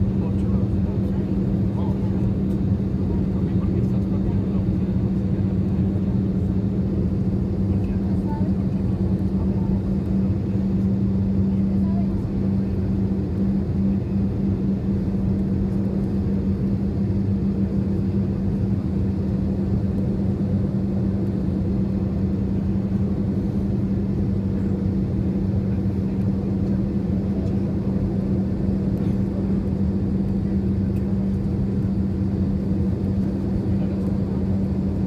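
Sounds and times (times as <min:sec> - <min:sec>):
airflow over fuselage: 0:00.0 - 0:35.0
jet engines droning: 0:00.0 - 0:35.0
steady low hum: 0:00.0 - 0:35.0.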